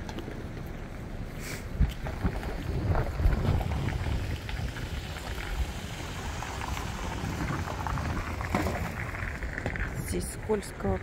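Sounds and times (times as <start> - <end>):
wind buffeting microphone: 1.7 - 11.0.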